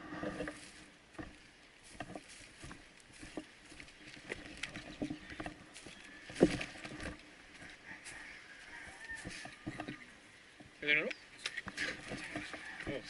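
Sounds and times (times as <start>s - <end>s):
footsteps through dry undergrowth: 0.0s - 13.0s.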